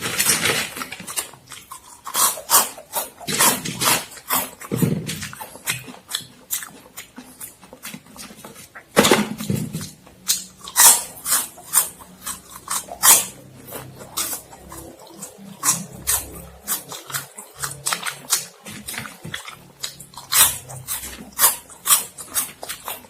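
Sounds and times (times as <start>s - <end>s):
chewing: 0.0s - 23.0s
crunching corn snacks: 0.0s - 23.0s.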